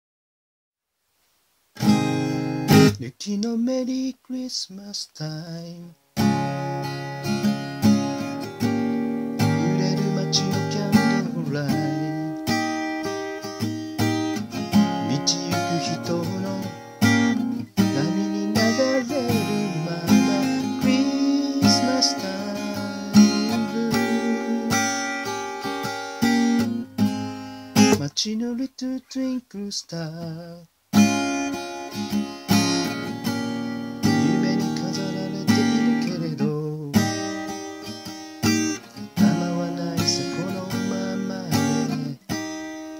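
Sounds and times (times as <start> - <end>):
acoustic guitar strumming: 1.8 - 4.5, 5.2 - 42.9.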